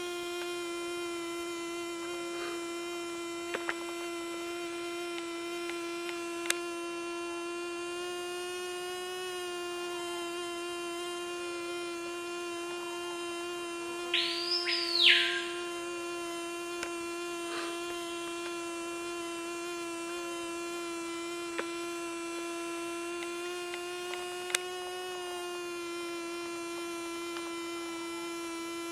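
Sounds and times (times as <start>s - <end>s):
fly wingbeat buzz: 0.0s - 28.9s.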